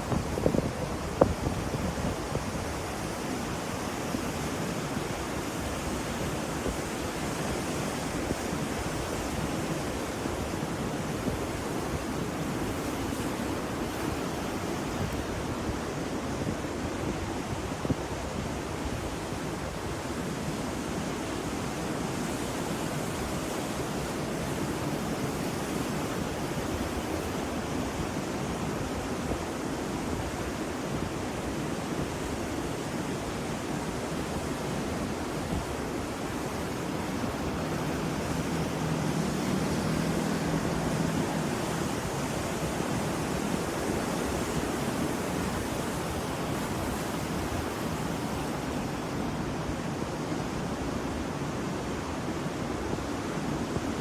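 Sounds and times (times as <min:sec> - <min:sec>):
ocean surf washing: 0:00.0 - 0:54.0.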